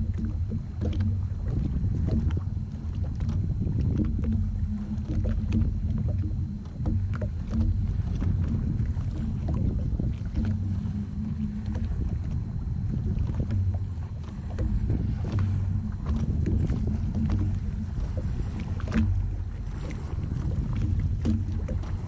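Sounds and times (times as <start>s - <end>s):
jet ski engine idling: 0.0s - 22.0s
water slapping hull: 0.0s - 22.0s.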